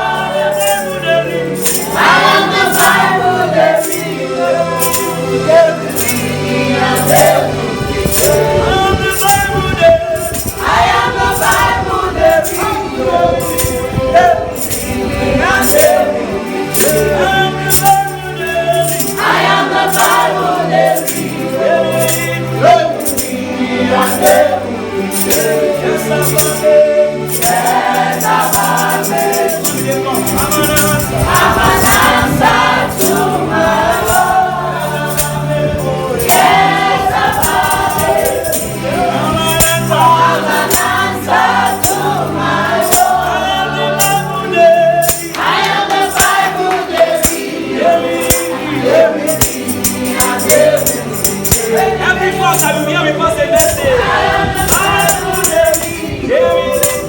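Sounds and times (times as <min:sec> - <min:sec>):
congregation singing: 0:00.0 - 0:57.0
tambourine beat: 0:00.0 - 0:57.0.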